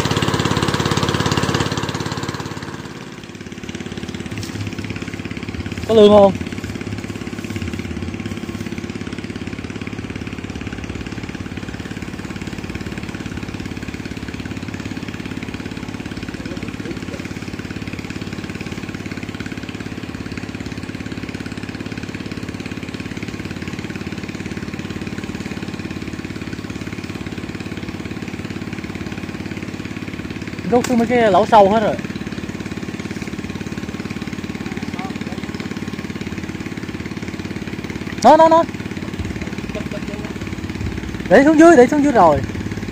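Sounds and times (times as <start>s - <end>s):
engine-driven water pump running: 0.0s - 42.9s.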